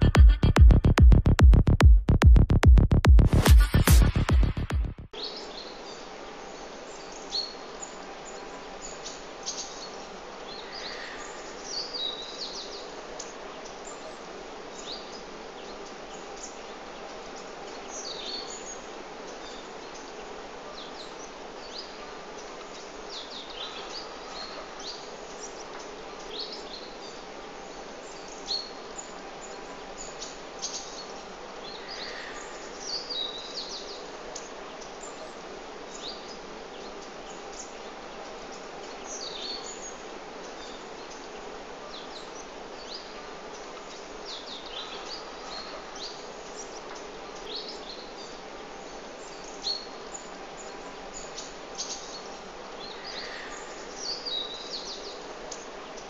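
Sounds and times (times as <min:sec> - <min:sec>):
small birds chirping: 0:05.2 - 0:56.0.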